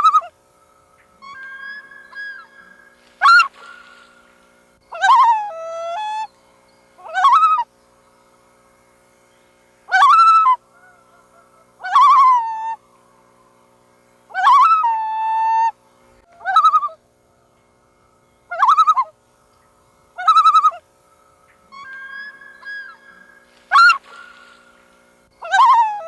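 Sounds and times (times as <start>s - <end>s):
loons calling: 0.0s - 26.0s.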